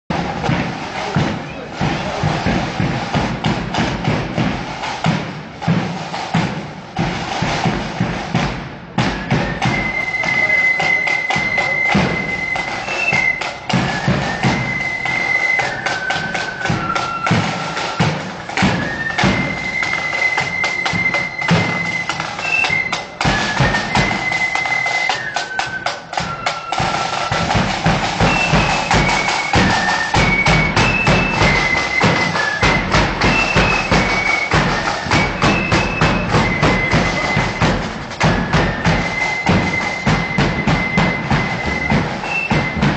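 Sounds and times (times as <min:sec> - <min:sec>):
flutes playing high tune: 0:00.1 - 0:05.2, 0:07.1 - 0:42.9
snare and bass drums: 0:00.1 - 0:42.9.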